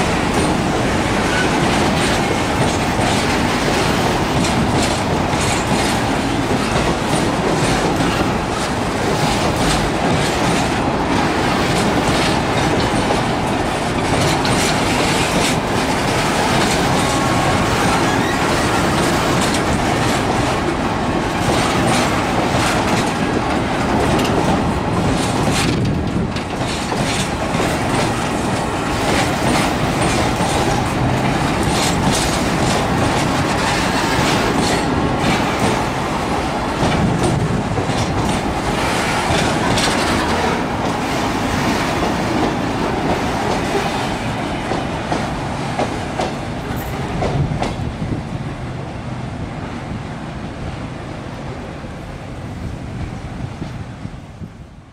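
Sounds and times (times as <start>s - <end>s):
train wheels clicking over rail joints: 0.0s - 48.4s
freight train rumble: 0.0s - 54.9s.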